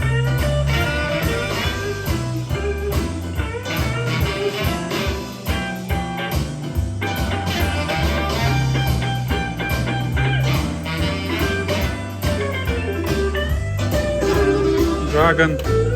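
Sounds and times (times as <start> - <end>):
blues music with electric guitar: 0.0 - 15.9.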